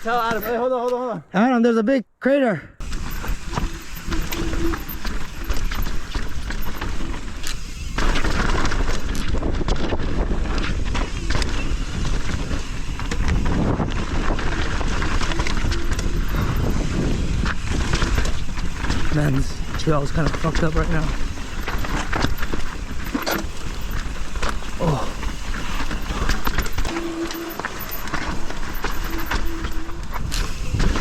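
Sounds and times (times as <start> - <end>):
bike knocking and rattling: 0.0 - 1.0, 2.8 - 31.0
bike tyres crunching over dirt: 0.0 - 1.0, 2.8 - 31.0.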